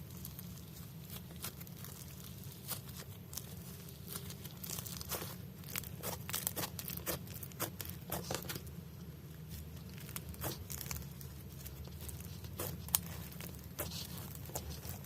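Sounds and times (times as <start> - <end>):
slime crackling and popping: 0.0 - 15.0.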